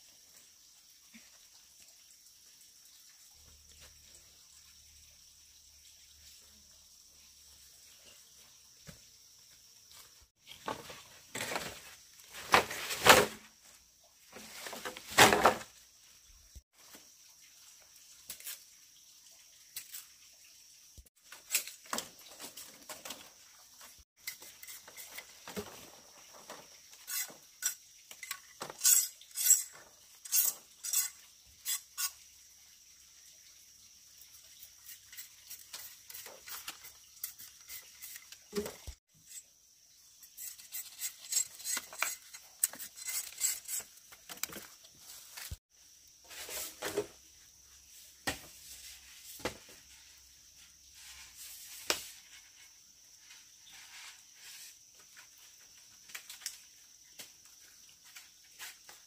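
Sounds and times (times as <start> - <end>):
faint high-pitched hiss: 0.0 - 59.0.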